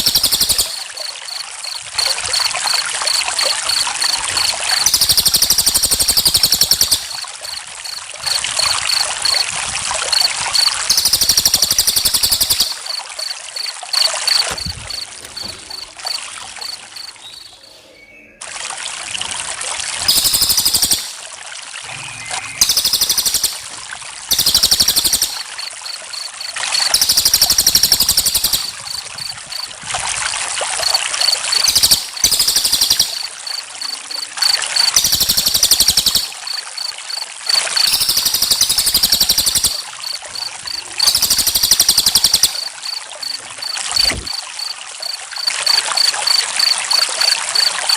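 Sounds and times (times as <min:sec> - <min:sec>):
crickets chirping: 0:00.0 - 0:17.8, 0:20.0 - 0:21.3, 0:21.9 - 0:47.9
water trickling: 0:00.0 - 0:17.8, 0:18.4 - 0:47.9.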